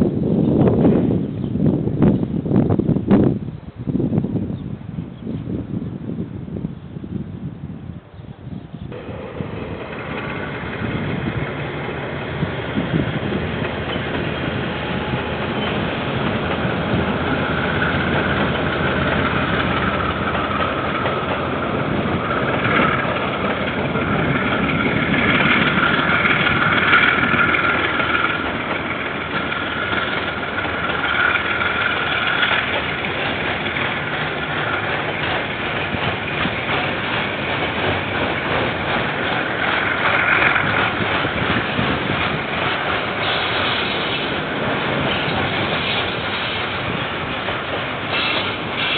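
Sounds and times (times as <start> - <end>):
train rumbling past: 0.0 - 48.9.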